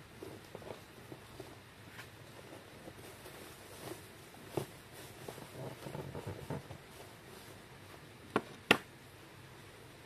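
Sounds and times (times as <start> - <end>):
small scratches and knocks: 0.0 - 8.6.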